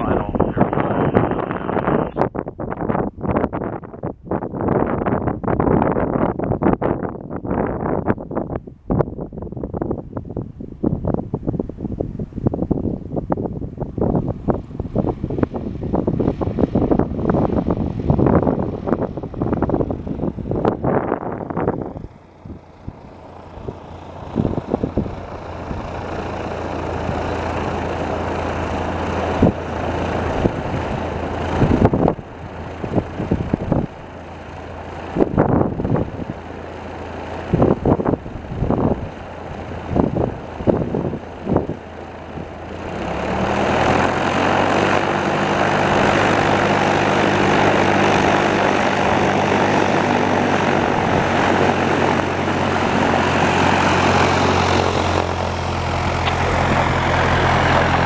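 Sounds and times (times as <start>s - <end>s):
aircraft piston engine droning: 0.0s - 4.0s, 9.7s - 58.0s
wind buffeting microphone: 0.0s - 58.0s.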